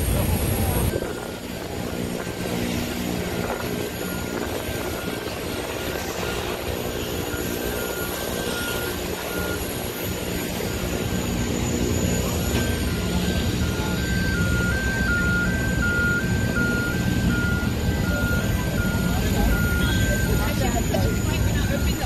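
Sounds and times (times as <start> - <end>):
aircraft engine humming: 0.0 - 22.0
high engine whine: 0.0 - 22.0.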